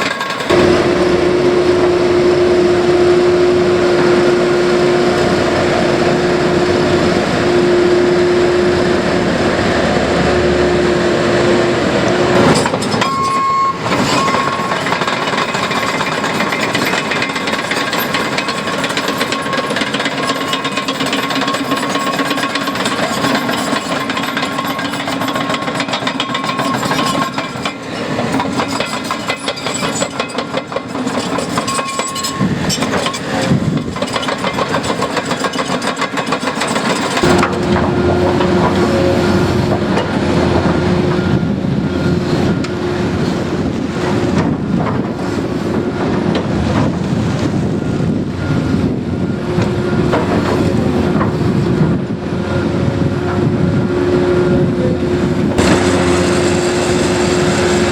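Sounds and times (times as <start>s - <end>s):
diesel machinery clattering: 0.0s - 57.9s.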